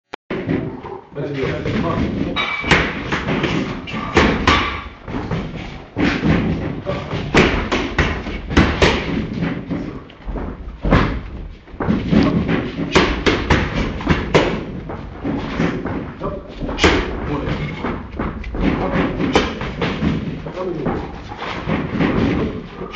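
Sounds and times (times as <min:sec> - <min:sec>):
boxing gloves striking mitts: 0:01.5 - 0:22.9.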